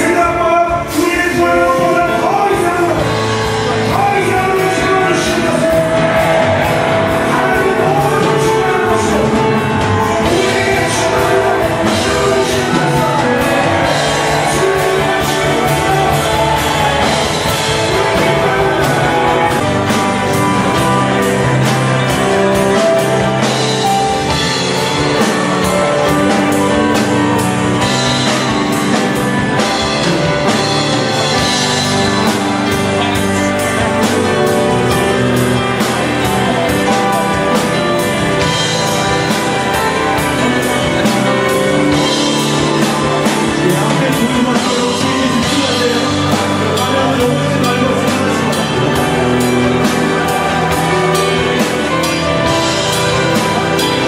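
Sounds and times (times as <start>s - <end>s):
song with singing over a band: 0.0s - 54.0s.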